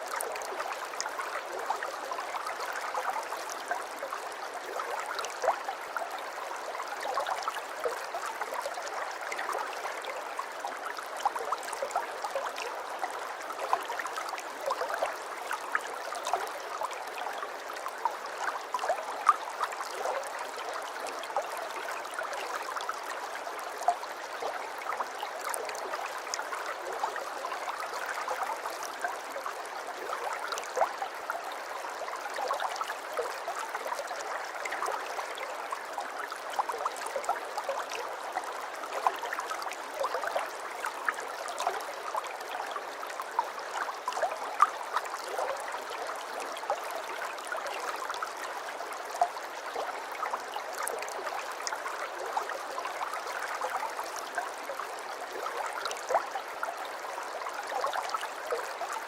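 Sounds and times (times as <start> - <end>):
water trickling and gurgling: 0.0 - 59.0.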